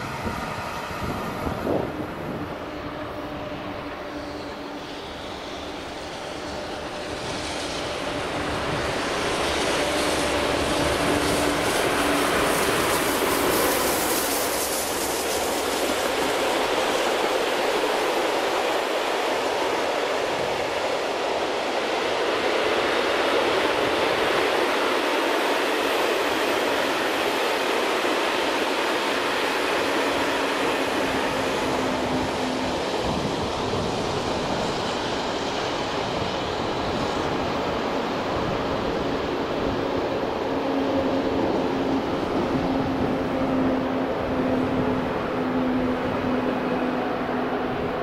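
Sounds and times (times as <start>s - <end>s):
steam train passing: 0.0s - 48.0s.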